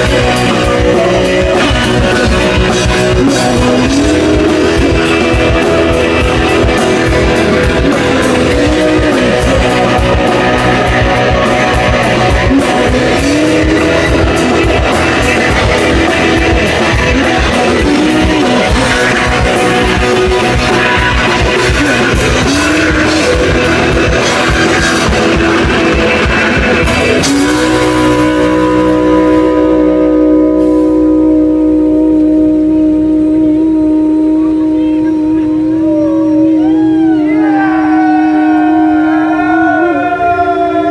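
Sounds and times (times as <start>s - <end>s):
drum kit playing: 0.0s - 40.9s
electric guitar riff: 0.0s - 40.9s.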